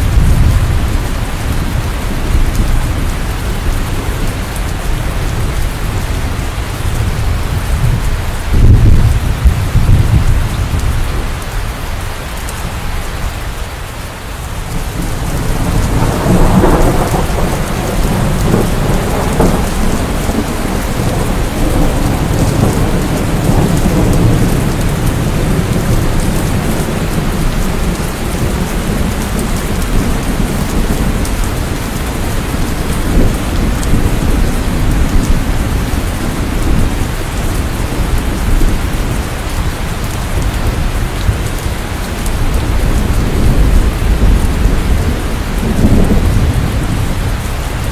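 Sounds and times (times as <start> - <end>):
rain falling: 0.0 - 47.9
thunder rumbling: 0.0 - 47.9.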